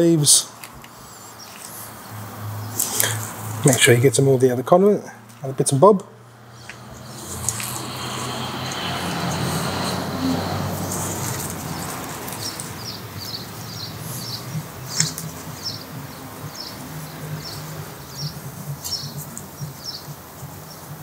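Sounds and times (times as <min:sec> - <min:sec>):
small birds chirping: 0:00.4 - 0:03.9, 0:06.4 - 0:21.0.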